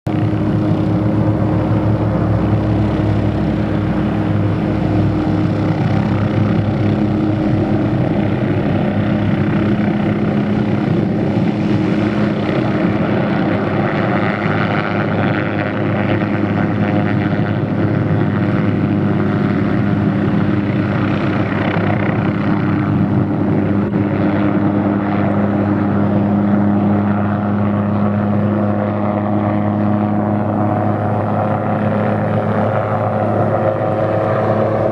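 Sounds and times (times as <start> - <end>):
helicopter rotor and turbine: 0.1 - 34.9.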